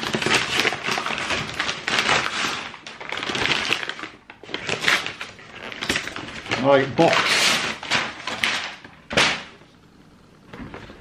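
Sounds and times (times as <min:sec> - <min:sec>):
paper and cardboard rustling: 0:00.0 - 0:09.4.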